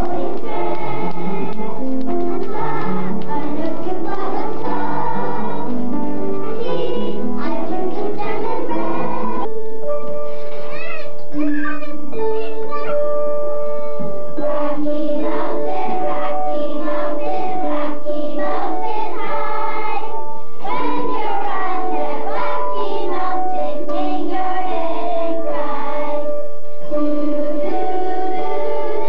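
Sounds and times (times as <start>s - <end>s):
children's choir singing: 0.0s - 9.5s, 14.3s - 29.0s.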